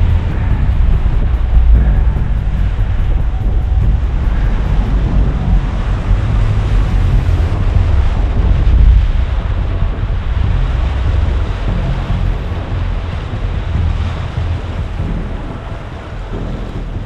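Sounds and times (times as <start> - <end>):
whitewater rushing and splashing: 0.0 - 17.0
wind buffeting the microphone: 0.0 - 17.0.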